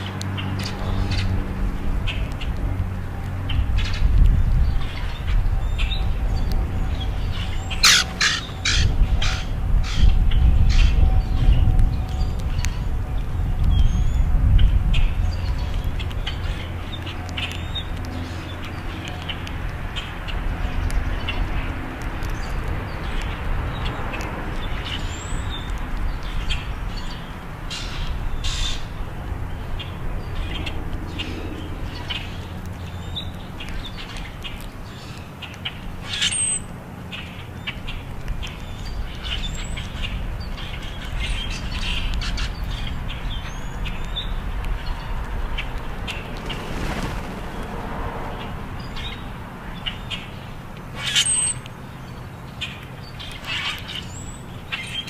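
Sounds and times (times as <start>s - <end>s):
blackbirds chirping and squawking: 0.0s - 55.0s.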